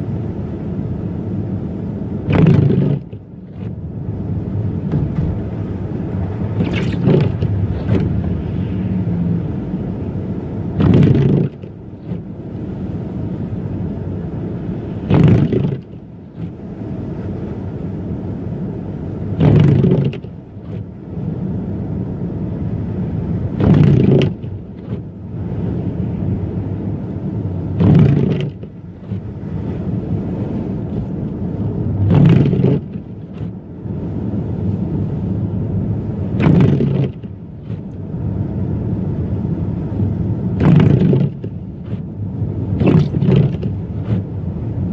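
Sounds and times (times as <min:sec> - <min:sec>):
car engine and tyres rumbling: 0:00.0 - 0:44.9
windshield wipers swishing: 0:01.8 - 0:21.6, 0:22.4 - 0:44.9.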